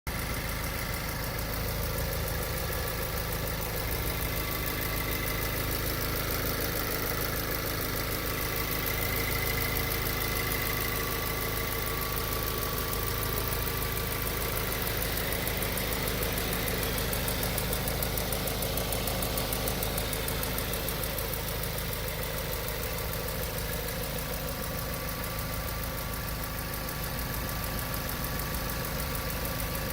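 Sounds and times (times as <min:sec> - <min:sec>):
car engine idling: 0:00.1 - 0:29.9
rapid engine ticking: 0:00.1 - 0:29.9.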